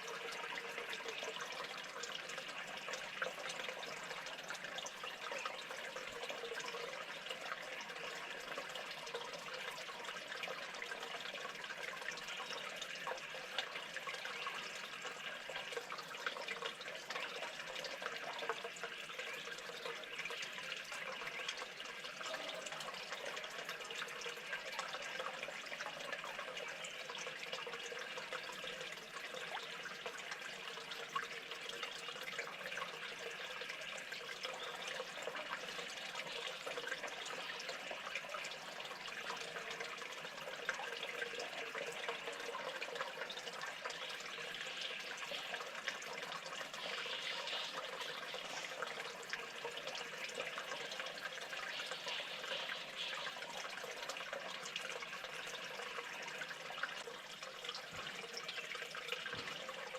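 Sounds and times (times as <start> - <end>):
trickling water: 0.0 - 59.9
water drips and splashes: 0.0 - 59.9.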